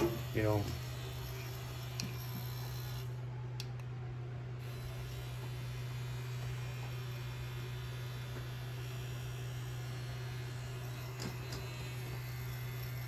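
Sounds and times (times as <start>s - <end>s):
electric grinder motor humming: 0.0s - 3.1s, 4.6s - 13.0s.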